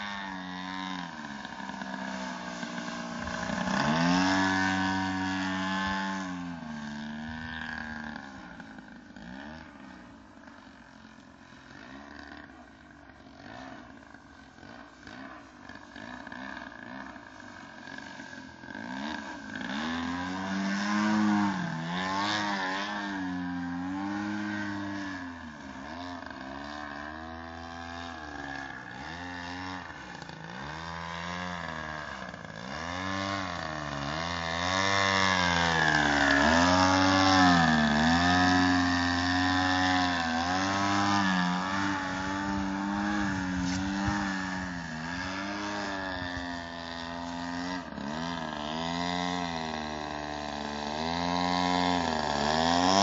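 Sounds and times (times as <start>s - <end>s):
model plane engine: 0.0s - 53.0s.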